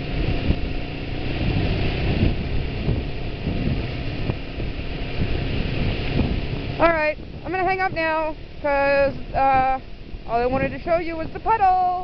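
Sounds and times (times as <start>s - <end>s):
motorcycle engine rumble: 0.0s - 12.0s
road noise: 0.0s - 12.0s
wind buffeting microphone: 0.0s - 12.0s.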